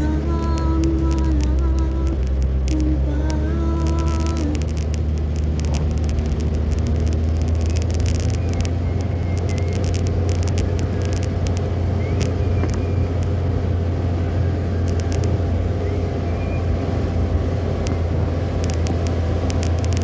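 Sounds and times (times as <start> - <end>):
sharp ticks: 0.0 - 13.4, 14.8 - 15.4, 17.8 - 20.0
car engine and road noise: 0.0 - 20.0.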